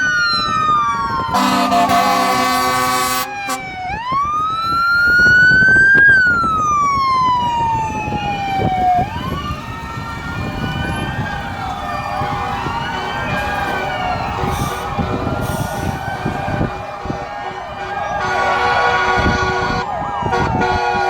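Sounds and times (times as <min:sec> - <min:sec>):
fire truck sirens wailing: 0:00.0 - 0:21.0.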